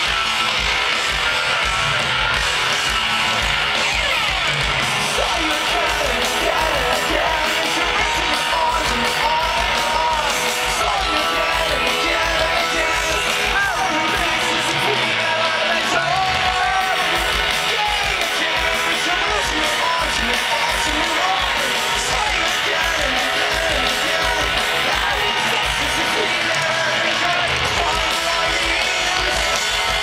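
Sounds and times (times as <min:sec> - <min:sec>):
live rock band playing: 0:00.0 - 0:30.0
person singing: 0:05.0 - 0:30.0.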